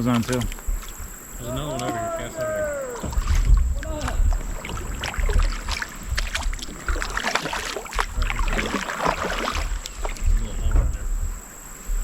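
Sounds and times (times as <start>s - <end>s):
water splashing around a kayak: 0.0s - 12.0s.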